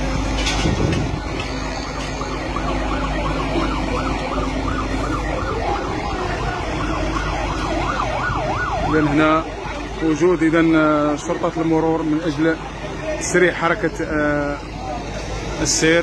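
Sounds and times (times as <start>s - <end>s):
fire engine siren wailing: 0.0s - 16.0s
street noise: 0.0s - 16.0s.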